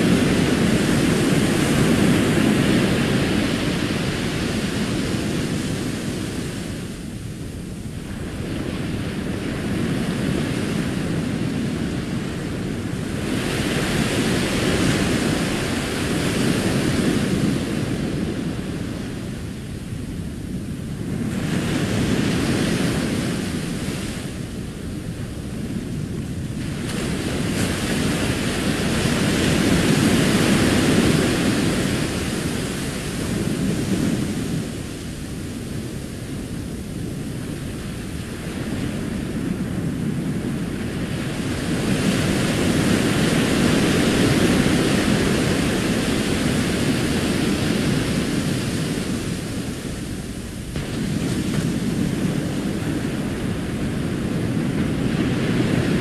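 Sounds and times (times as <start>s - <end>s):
ocean surf on beach: 0.0s - 56.0s.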